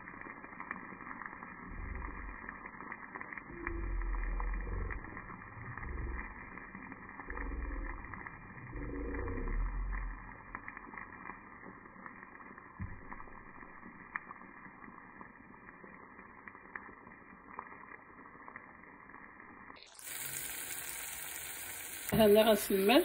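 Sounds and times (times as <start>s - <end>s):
bright sizzle: 0.0s - 23.0s
sauce bubbling in a pan: 0.0s - 23.0s.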